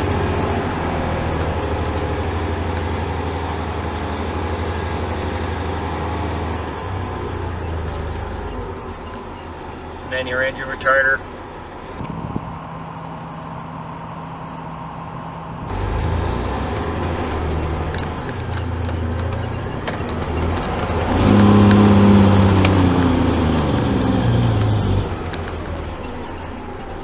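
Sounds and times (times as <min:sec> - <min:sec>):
diesel truck engine retarder: 0:00.0 - 0:27.0.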